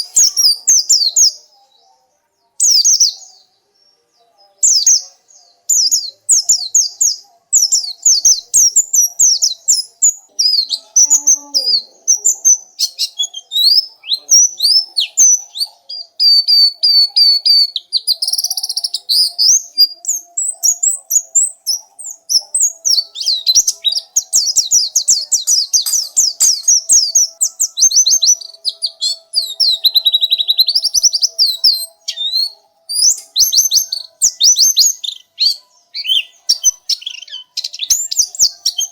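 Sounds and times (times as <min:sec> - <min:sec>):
bird twittering song: 0:00.0 - 0:01.8, 0:02.6 - 0:38.9.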